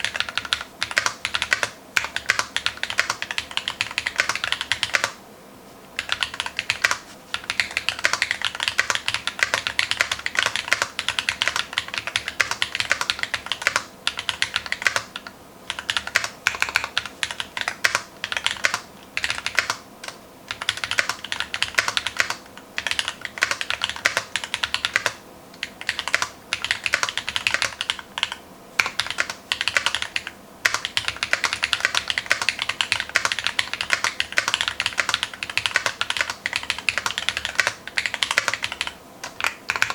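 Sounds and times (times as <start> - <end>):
fast typing on mechanical keyboard: 0.0 - 5.2, 6.0 - 39.9.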